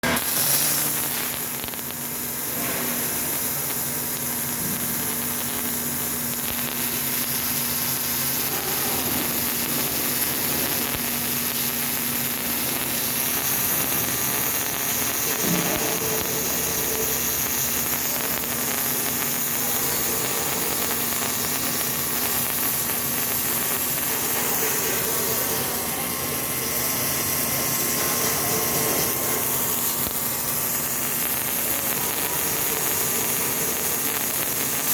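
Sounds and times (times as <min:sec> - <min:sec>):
industrial machinery hiss: 0:00.0 - 0:34.9.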